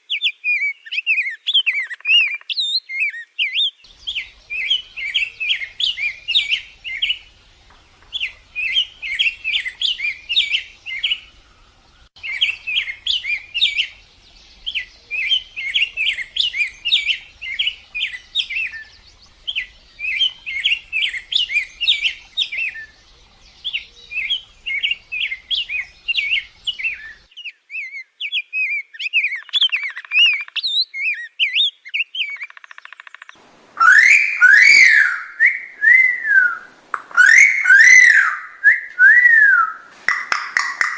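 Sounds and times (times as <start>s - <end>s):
small songbirds chirping: 0.0s - 40.9s
whistled bird notes: 0.1s - 32.5s, 33.8s - 40.9s.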